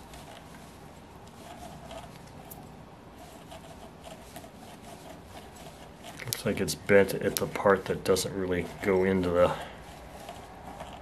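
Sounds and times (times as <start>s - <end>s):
small metal ticks and scrapes: 0.0s - 11.0s.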